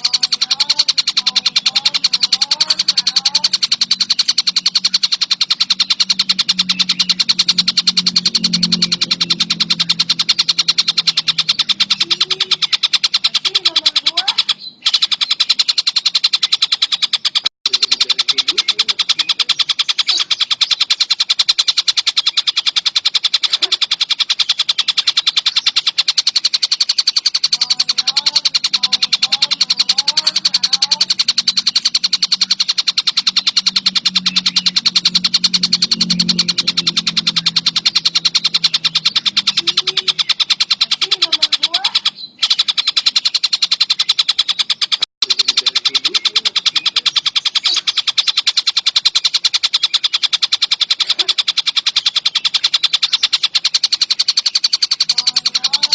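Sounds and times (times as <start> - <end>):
kingfisher rattling call: 0.0 - 55.9.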